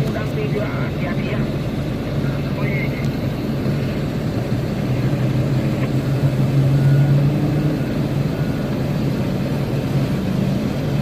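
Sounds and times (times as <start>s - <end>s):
large diesel engines drone: 0.0s - 11.0s.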